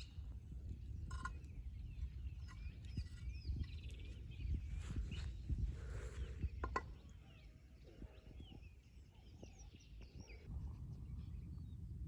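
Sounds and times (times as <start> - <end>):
birds chirping and whistling: 0.8 - 11.8.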